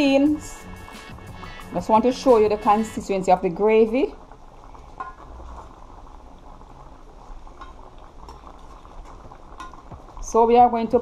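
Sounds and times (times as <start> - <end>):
stew simmering and bubbling: 0.0 - 11.0.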